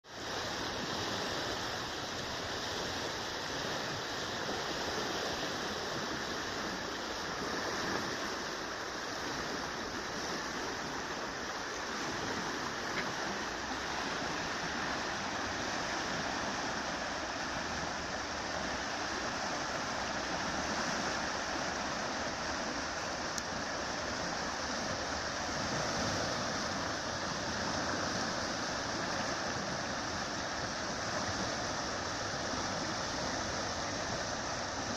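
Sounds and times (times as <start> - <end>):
floodwater rushing over weir: 0.0 - 34.9.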